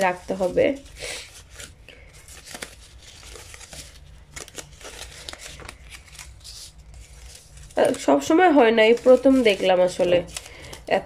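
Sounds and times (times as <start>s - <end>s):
dried leaves rustling and crackling: 0.0s - 11.0s.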